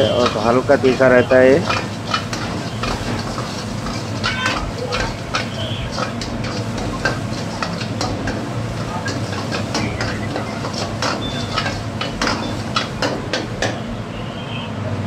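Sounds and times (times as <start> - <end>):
metal spatula scraping a metal pan: 0.0 - 13.9.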